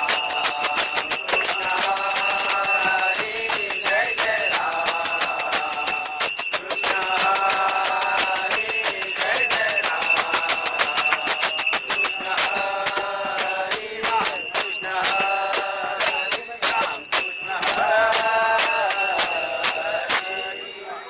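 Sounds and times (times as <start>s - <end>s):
fast percussion strikes: 0.0s - 20.6s
people singing together: 0.0s - 21.0s.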